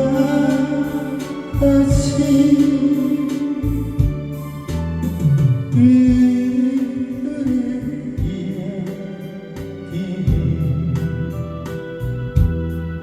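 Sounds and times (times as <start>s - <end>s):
guitar: 0.0s - 13.0s
keyboard: 0.0s - 13.0s
person singing a ballad: 0.0s - 13.0s.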